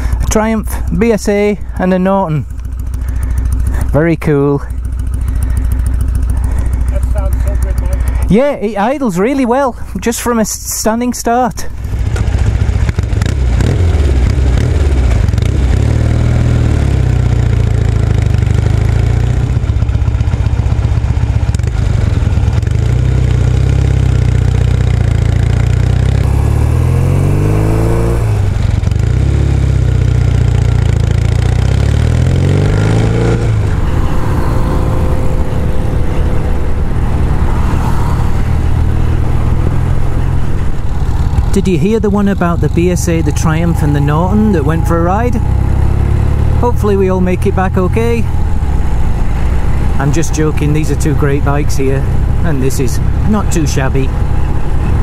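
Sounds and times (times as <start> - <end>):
motorcycle engine revving: 0.0 - 9.4, 11.8 - 55.0
wind and road noise: 0.0 - 55.0.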